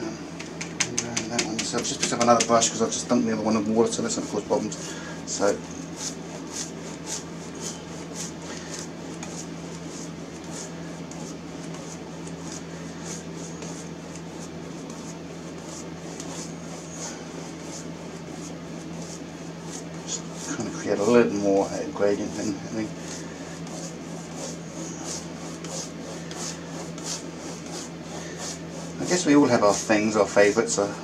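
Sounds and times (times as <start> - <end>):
electrical hum: 0.0 - 31.0
paintbrush swishing on canvas: 5.4 - 30.7.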